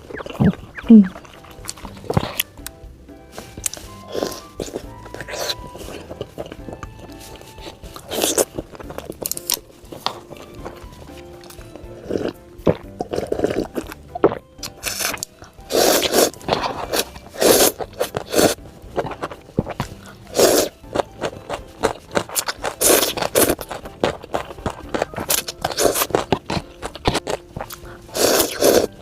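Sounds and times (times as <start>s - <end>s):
crunching and chewing crisp food: 0.0s - 29.0s.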